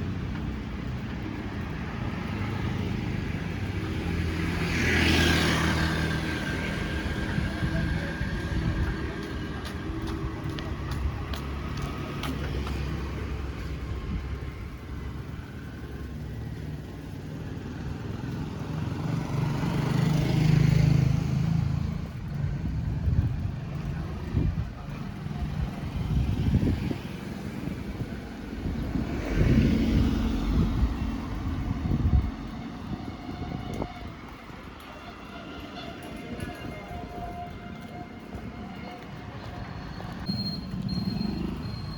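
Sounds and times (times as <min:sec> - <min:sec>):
road traffic rumble: 0:00.0 - 0:41.9.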